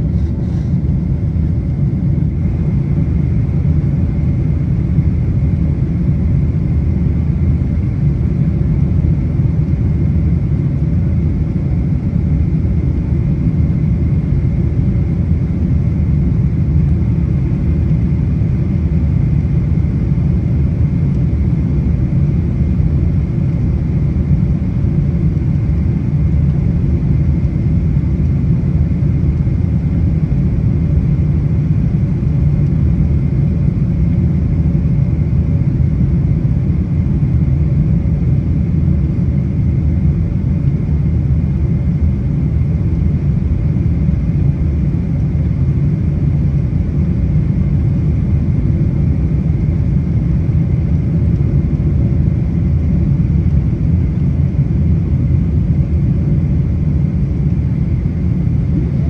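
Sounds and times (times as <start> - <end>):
airplane cabin rumble: 0.0 - 59.0
faint steady hum: 0.0 - 59.0.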